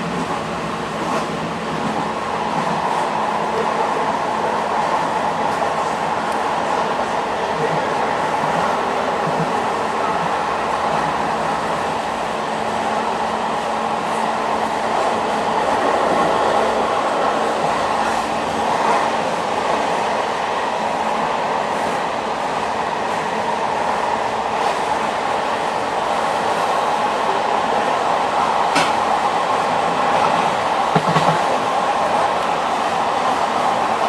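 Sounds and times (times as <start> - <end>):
train running on rails: 0.0 - 34.0.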